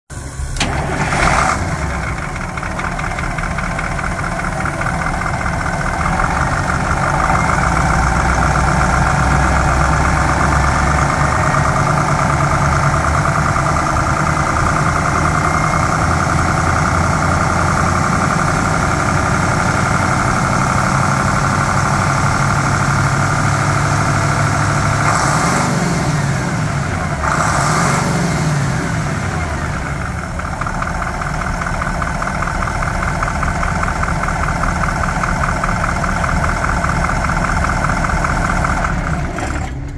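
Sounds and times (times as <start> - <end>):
diesel engine idling: 0.1 - 39.9.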